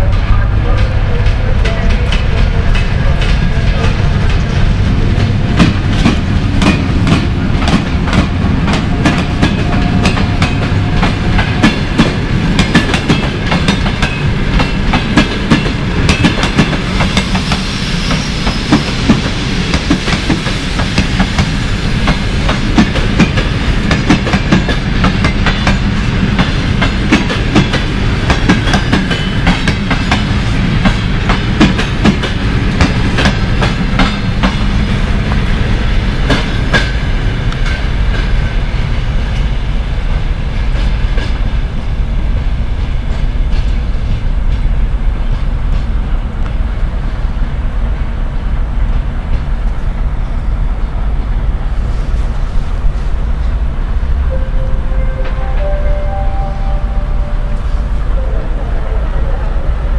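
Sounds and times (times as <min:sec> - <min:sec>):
train coaches rumbling past: 0:00.0 - 0:59.9.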